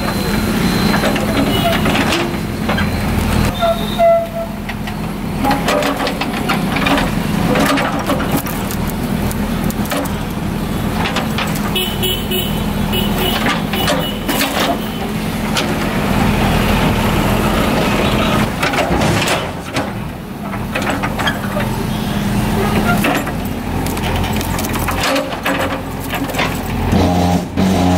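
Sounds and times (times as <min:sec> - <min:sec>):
diesel engine running under load: 0:00.0 - 0:27.9.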